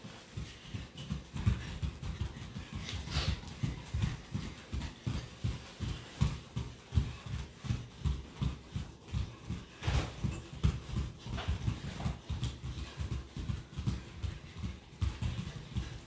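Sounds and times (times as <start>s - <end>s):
bare feet thudding on floor: 0.0s - 16.0s.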